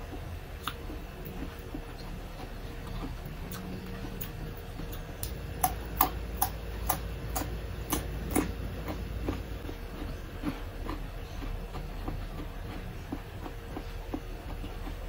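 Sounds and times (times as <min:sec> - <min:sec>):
chewing crunchy cucumber: 0:00.0 - 0:15.0.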